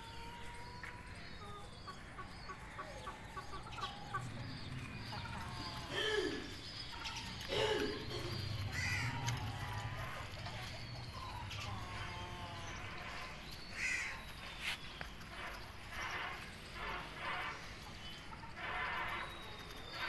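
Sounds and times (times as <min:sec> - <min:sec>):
young chickens calling: 0:00.0 - 0:20.0.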